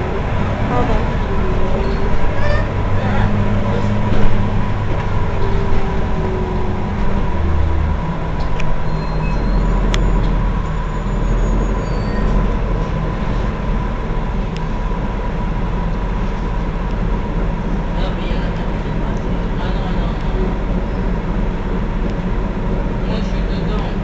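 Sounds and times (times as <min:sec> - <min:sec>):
bus engine idling: 0:00.0 - 0:24.0.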